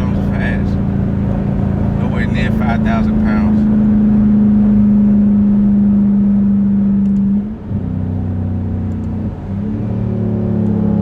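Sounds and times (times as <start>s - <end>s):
car exhaust drone: 0.0s - 11.0s.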